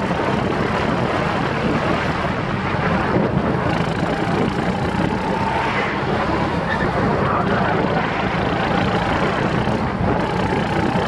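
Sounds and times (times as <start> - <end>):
go-kart engine running: 0.0 - 11.0
wind rushing over microphone: 0.0 - 11.0.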